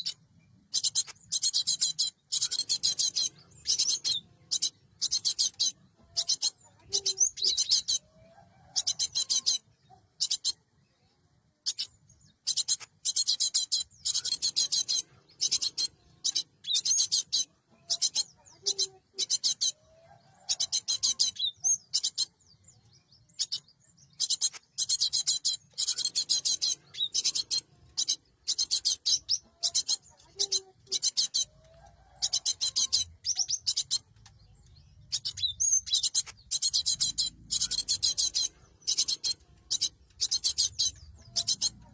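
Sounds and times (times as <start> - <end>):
bird harsh chattering calls: 0.0 - 10.7, 11.6 - 22.5, 23.2 - 41.9.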